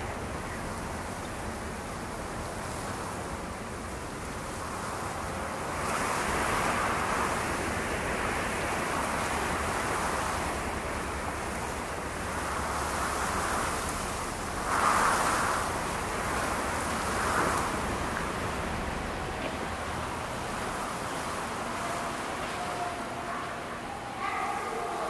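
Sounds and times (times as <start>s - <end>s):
gusty wind buffeting microphone: 0.0s - 22.3s.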